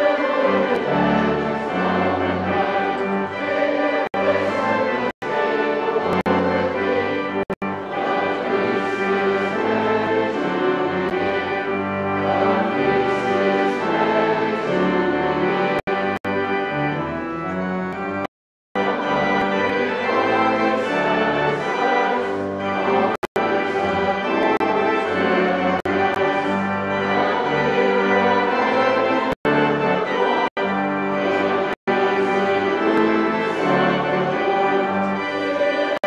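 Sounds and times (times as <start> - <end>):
organ playing sustained chords: 0.0 - 36.0.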